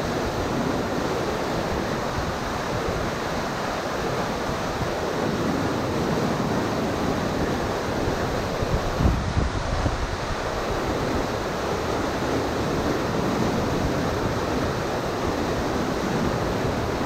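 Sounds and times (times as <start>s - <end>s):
whitewater rapids rushing over rocks: 0.0s - 17.0s.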